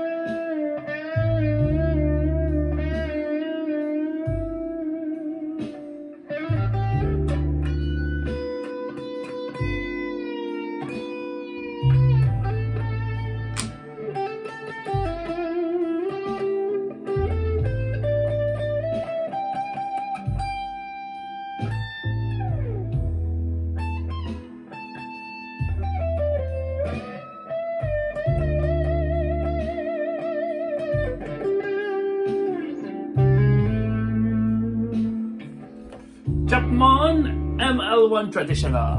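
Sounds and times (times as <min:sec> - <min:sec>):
overdriven electric guitar lead: 0:00.0 - 0:38.9.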